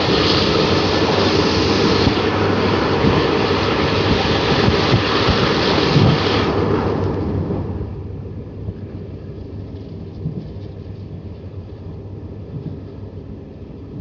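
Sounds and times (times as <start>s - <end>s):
rushing air: 0.0s - 14.0s
train wheels rumbling on rails: 0.0s - 14.0s.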